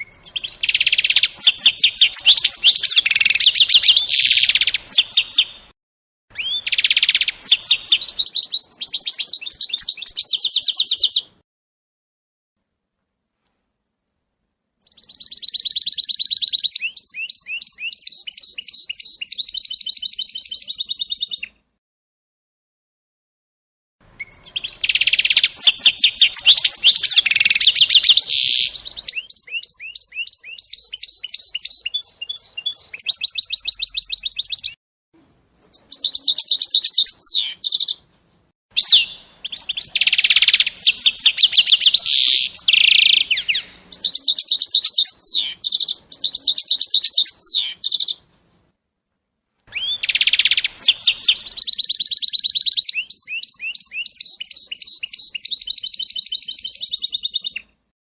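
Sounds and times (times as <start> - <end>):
songbird trilling and chirping: 0.0 - 5.7, 6.3 - 11.4, 14.8 - 21.6, 24.2 - 34.8, 35.6 - 38.0, 38.8 - 48.2, 49.7 - 57.7.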